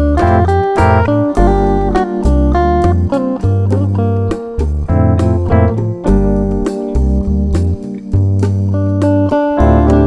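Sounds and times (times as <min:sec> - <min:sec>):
instrumental music with bass and keyboard: 0:00.0 - 0:10.0.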